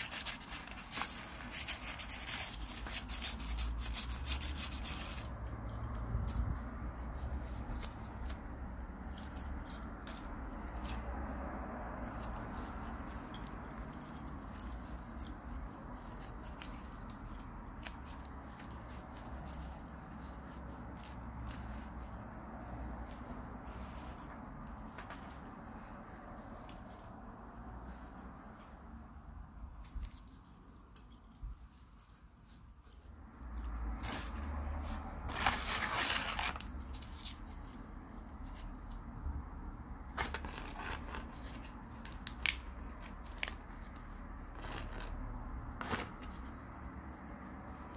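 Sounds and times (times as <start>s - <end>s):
gloves and cloth rustling: 0.0s - 47.9s.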